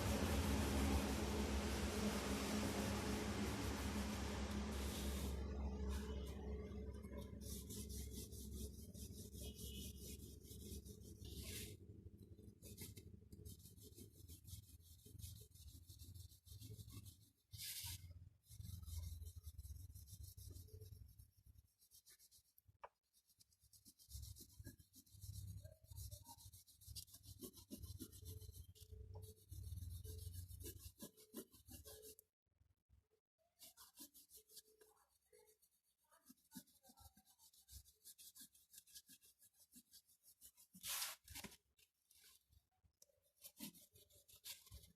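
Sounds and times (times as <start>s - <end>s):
pencil rubbing on paper: 0.0s - 11.8s, 12.6s - 32.2s, 33.6s - 41.5s, 43.3s - 44.9s.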